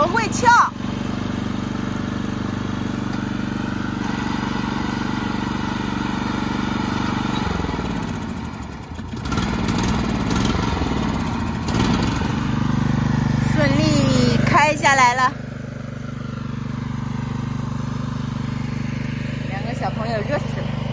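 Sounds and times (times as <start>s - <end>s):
riding mower engine running: 0.0s - 20.9s.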